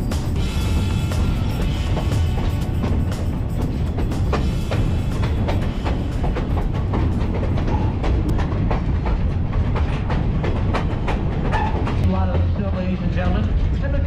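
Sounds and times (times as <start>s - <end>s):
train rumbling on track: 0.0s - 14.0s
wheels clicking over rails: 0.0s - 14.0s.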